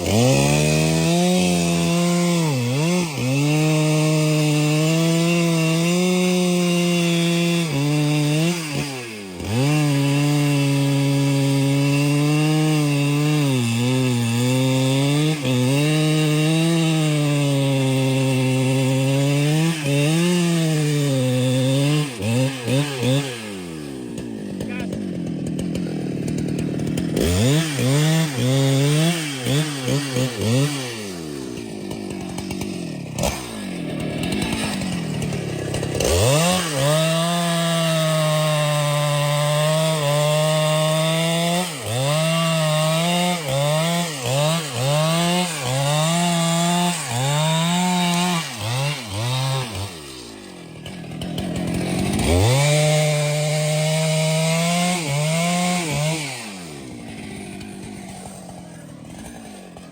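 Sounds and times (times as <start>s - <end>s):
chainsaw cutting timber: 0.0s - 59.9s.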